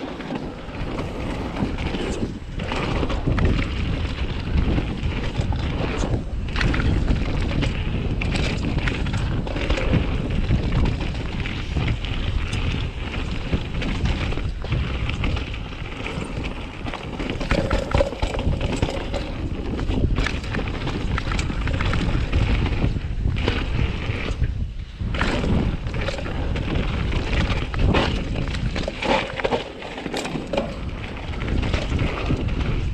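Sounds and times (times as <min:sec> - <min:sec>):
bike clicks and rattles: 0:00.0 - 0:32.9
tyre noise on dirt: 0:00.0 - 0:32.9
wind buffeting microphone: 0:00.0 - 0:32.9.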